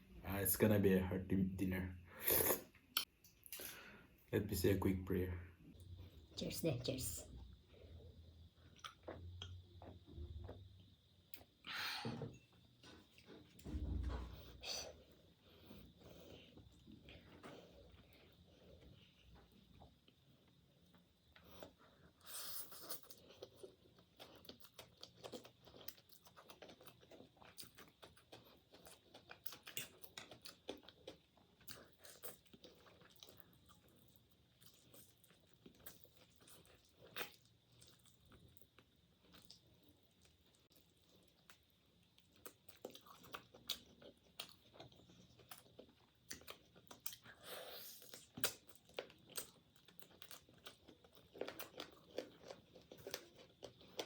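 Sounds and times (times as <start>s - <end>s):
chewing and crunching food: 7.2s - 11.7s, 12.5s - 54.0s.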